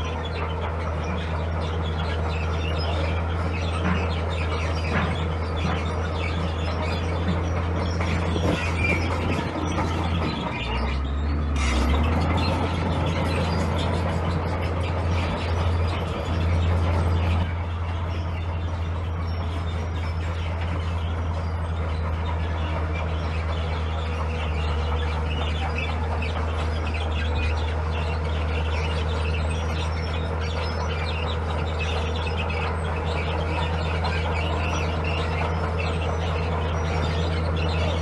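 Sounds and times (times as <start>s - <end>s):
diesel engine deep hum: 0.0s - 38.0s.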